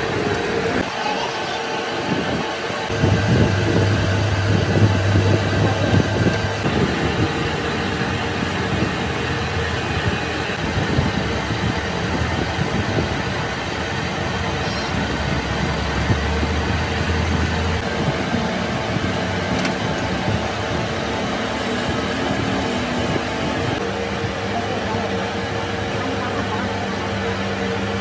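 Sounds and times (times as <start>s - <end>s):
metal lathe cutting steel: 0.0s - 28.0s.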